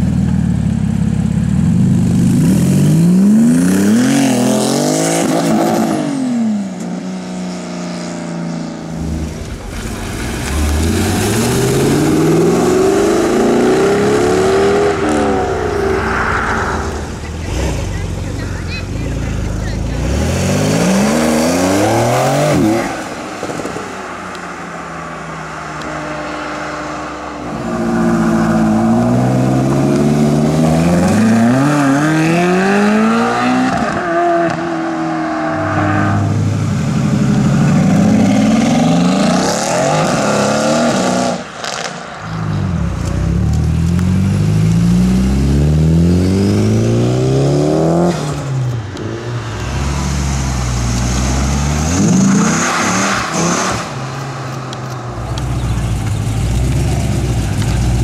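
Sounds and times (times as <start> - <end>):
sports car engines accelerating: 0.0 - 58.0.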